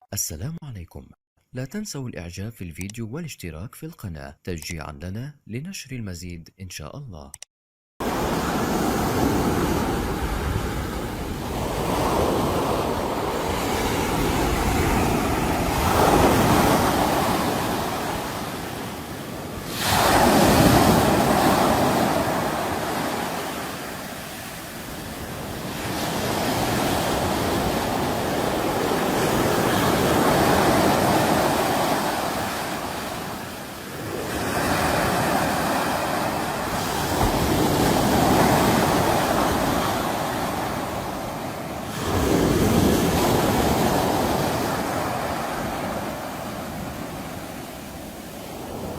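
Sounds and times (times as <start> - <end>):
sea waves breaking on shore: 8.0 - 48.9.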